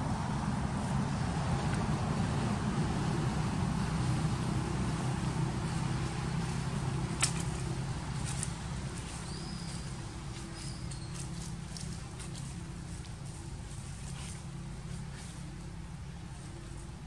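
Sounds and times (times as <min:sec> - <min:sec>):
motor running with low rumble: 0:00.0 - 0:17.0.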